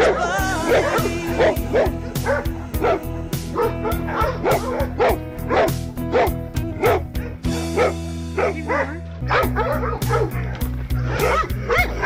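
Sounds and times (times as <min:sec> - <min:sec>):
background music with steady beat: 0:00.0 - 0:12.0
dogs barking: 0:00.0 - 0:12.0.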